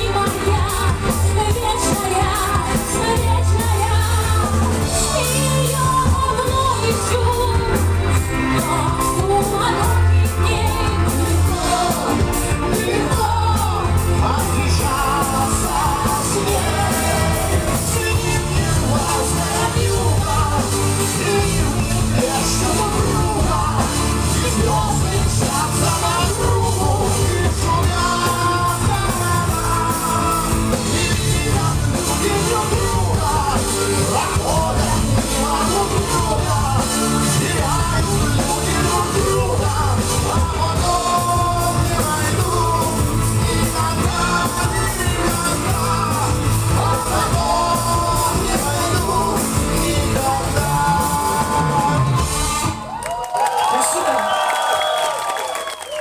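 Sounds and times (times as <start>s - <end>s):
live rock band playing: 0.0s - 54.0s
voices singing and shouting: 0.0s - 56.0s.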